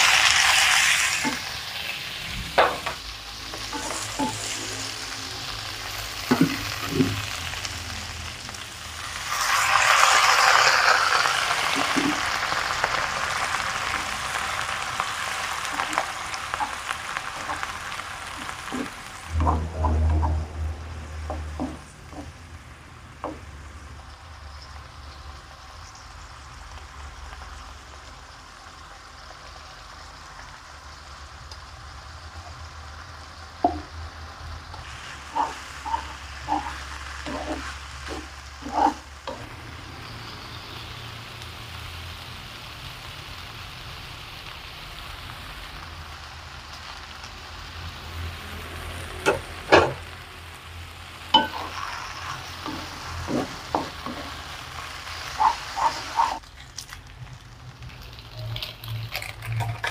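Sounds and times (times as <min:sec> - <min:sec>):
noodles sizzling in wok: 0:00.0 - 0:59.9.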